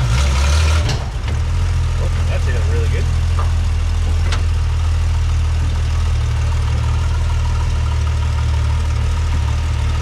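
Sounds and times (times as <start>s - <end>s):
pickup engine idling: 1.0s - 10.0s.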